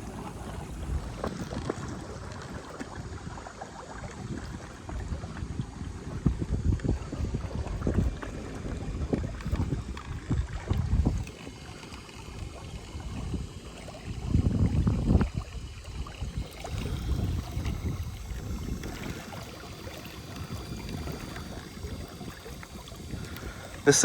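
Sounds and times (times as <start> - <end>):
electric trolling motor: 0.0 - 24.0
water moving against boat: 0.0 - 24.0
wind buffeting microphone: 0.0 - 24.0.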